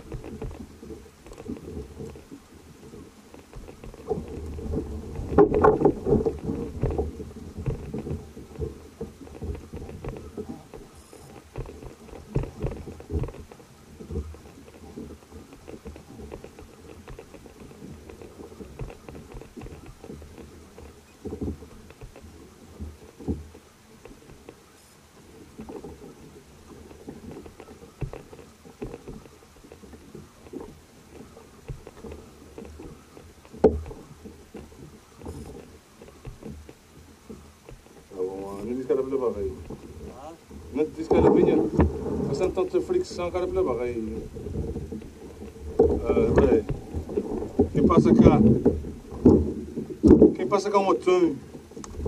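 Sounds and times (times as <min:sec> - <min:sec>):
muffled thumps on kayak: 0:00.0 - 0:52.0.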